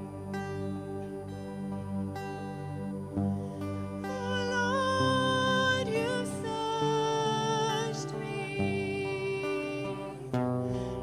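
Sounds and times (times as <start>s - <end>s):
gentle acoustic guitar chords: 0.0s - 11.0s.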